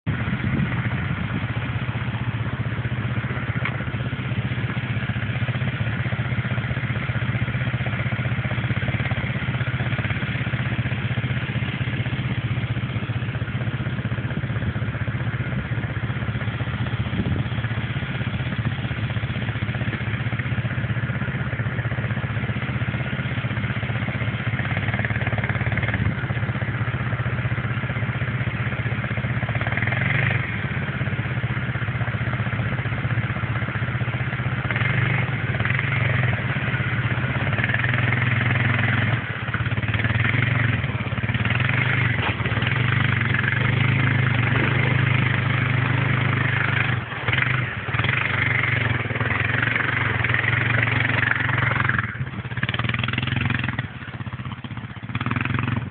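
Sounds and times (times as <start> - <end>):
quad bike engine running: 0.0 - 55.9.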